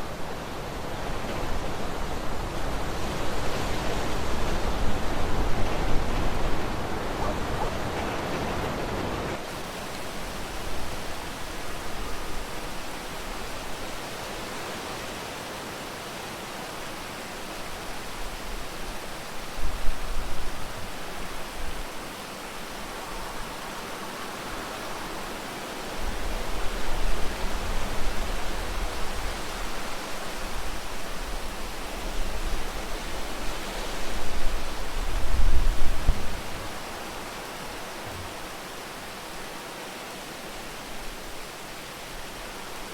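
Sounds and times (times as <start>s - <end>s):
steady rain hissing: 0.0s - 42.9s.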